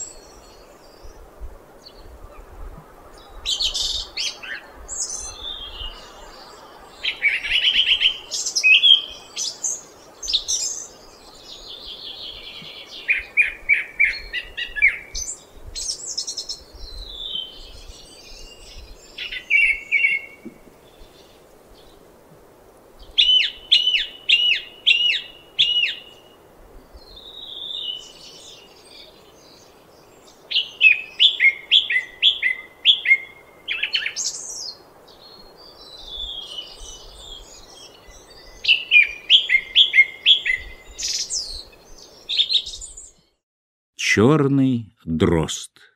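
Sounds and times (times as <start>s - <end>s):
song thrush singing: 0.0s - 22.0s, 23.0s - 43.4s.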